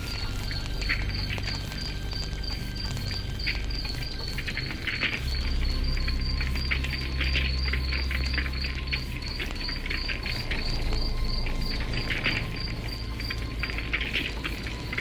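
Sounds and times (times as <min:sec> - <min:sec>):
campfire crackling: 0:00.0 - 0:15.0
cricket chirping: 0:00.0 - 0:15.0.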